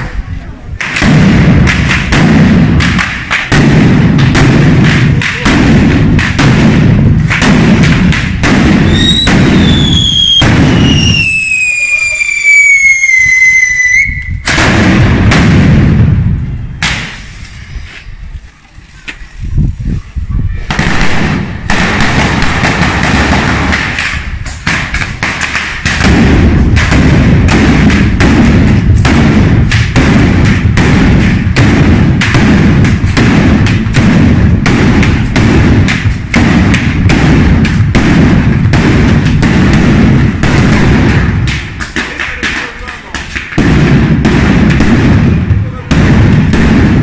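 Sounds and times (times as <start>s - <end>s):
firecrackers banging: 0.0s - 18.4s, 20.6s - 47.0s.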